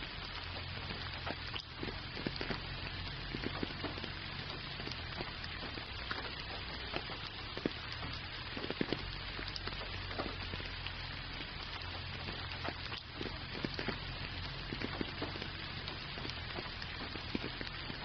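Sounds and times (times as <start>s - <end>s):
rain falling: 0.0s - 18.0s
raindrops ticking: 0.0s - 18.0s.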